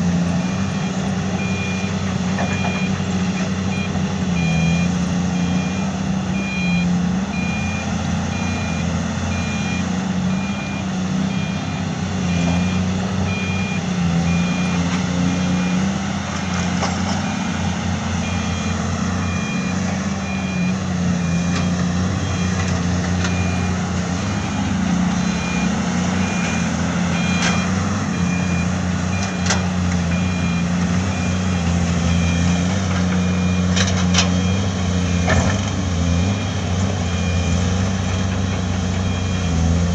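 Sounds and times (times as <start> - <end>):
diesel construction machinery running: 0.0 - 39.9
reversing alarm beeping: 0.4 - 39.9.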